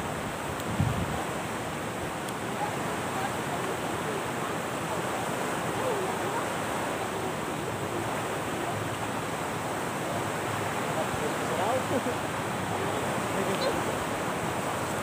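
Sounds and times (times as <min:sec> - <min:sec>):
waves rushing on shore: 0:00.0 - 0:15.0
faint distant voices: 0:00.9 - 0:15.0.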